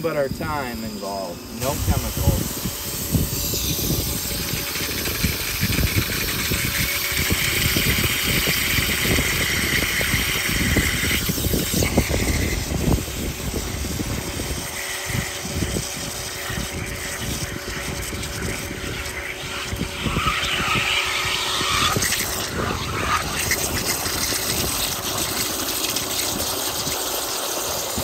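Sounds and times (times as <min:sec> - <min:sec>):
pressure washer pump motor: 0:00.0 - 0:28.0
water jet hissing on stone: 0:00.0 - 0:28.0.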